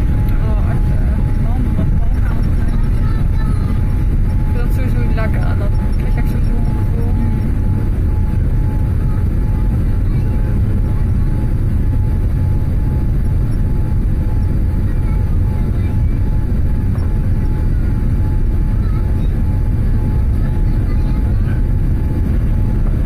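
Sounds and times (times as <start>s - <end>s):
deep rumble of jet engines: 0.0s - 23.0s.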